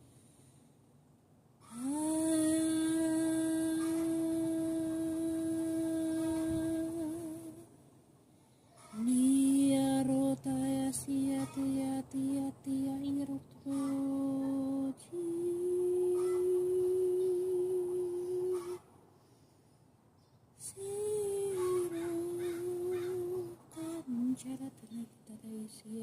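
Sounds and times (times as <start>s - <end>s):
person humming held notes: 1.7s - 7.7s, 9.0s - 18.8s, 20.7s - 26.0s.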